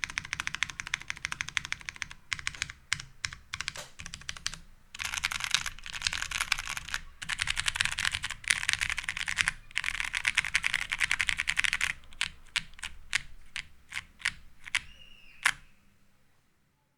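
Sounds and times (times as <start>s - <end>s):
mechanical keyboard keystrokes: 0.0s - 15.6s.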